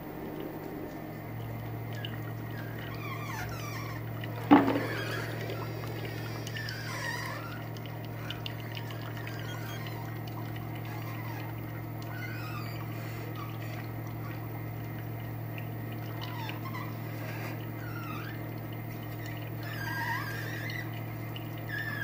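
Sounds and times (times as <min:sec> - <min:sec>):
oil press motor hum: 0:00.0 - 0:22.0.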